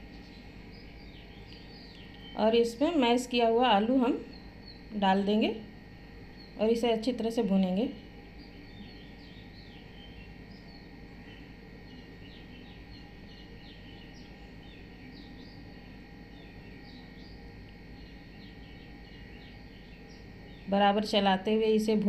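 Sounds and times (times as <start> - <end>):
low steady hum: 0.0 - 22.0
small birds chirping: 0.0 - 22.0.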